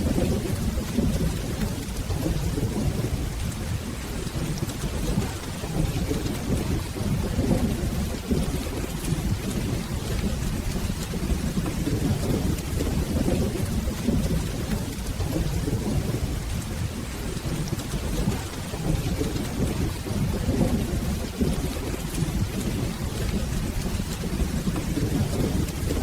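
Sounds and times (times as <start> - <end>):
rolling thunder: 0.0 - 26.0
steady rain: 0.0 - 26.0.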